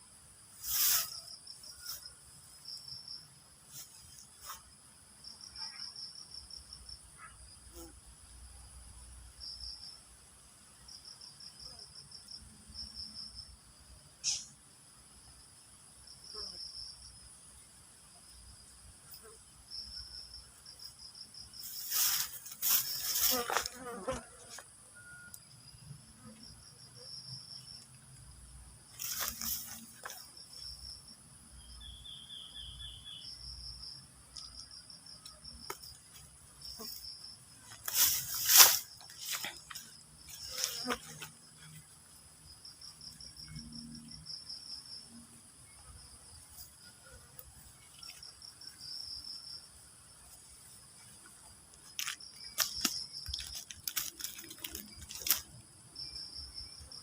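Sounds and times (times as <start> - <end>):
insects chirping in trills: 0.0 - 57.0.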